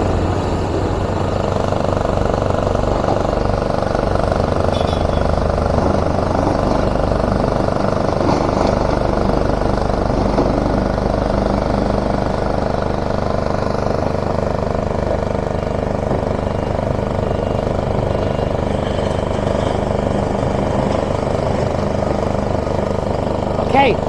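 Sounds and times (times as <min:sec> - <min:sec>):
heavy diesel machinery droning: 0:00.0 - 0:24.0.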